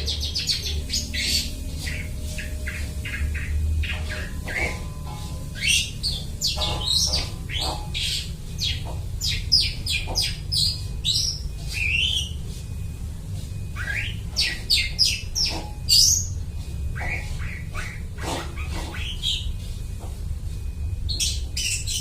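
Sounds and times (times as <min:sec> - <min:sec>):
bird singing harsh varied notes: 0:00.0 - 0:12.5, 0:13.6 - 0:19.7
steady low hum: 0:00.0 - 0:22.0.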